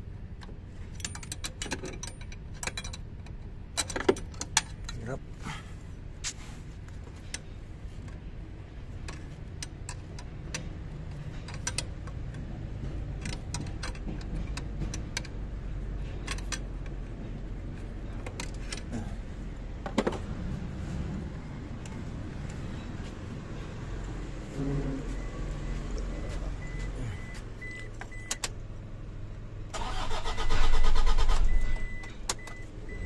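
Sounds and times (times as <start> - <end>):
low steady rumble: 0.0 - 33.0.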